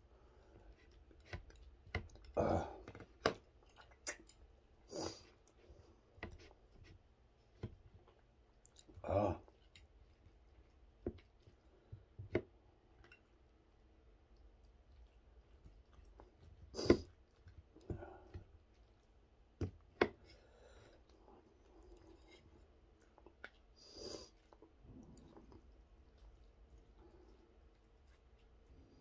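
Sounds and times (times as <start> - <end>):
quiet chewing: 0.0 - 29.0.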